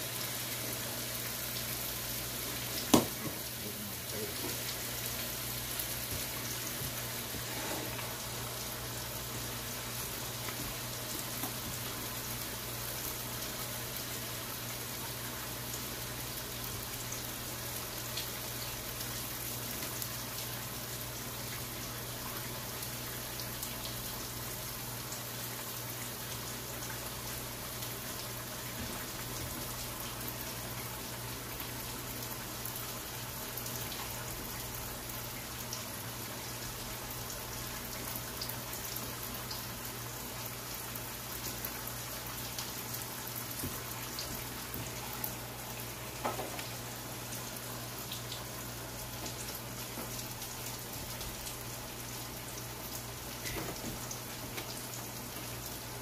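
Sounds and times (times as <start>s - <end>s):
food sizzling in hot grease: 0.0s - 56.0s.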